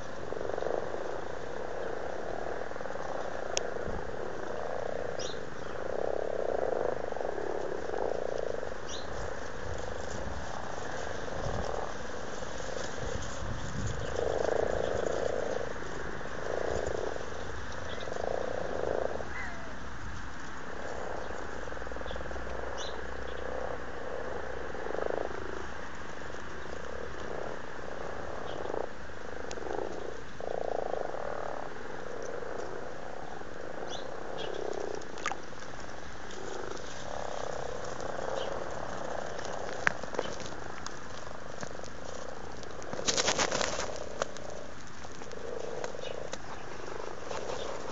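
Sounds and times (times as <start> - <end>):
background frog chorus: 0.0 - 47.9
frogs croaking: 0.0 - 47.9.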